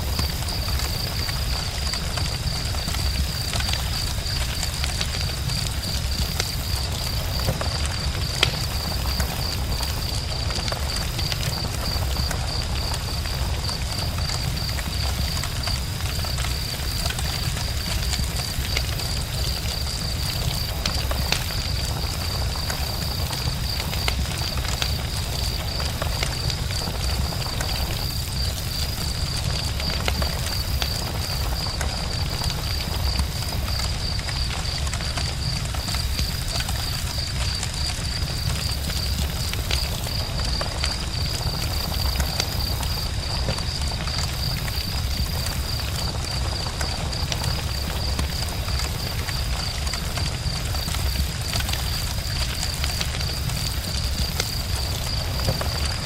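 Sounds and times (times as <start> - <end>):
campfire flames rumbling: 0.0 - 56.0
fire crackles and pops: 0.0 - 56.0.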